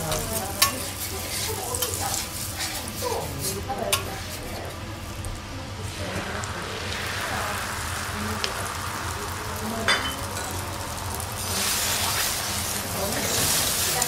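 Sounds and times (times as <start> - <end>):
egg sizzling on griddle: 0.0 - 14.0.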